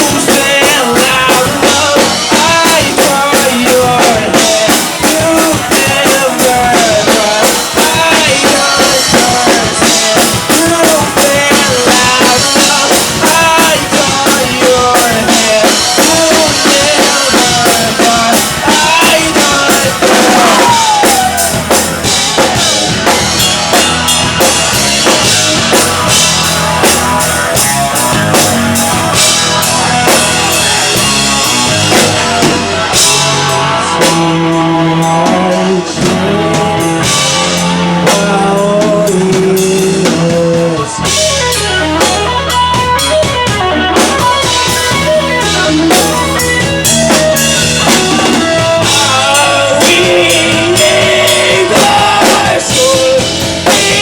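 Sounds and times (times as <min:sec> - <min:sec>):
drum kit beat: 0:00.0 - 0:54.0
electric guitar: 0:00.0 - 0:54.0.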